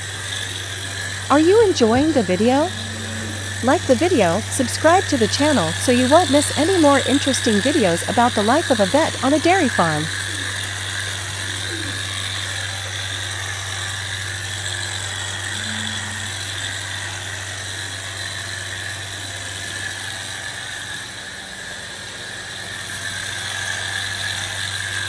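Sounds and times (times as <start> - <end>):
machine drone with whine: 0.0 - 25.0.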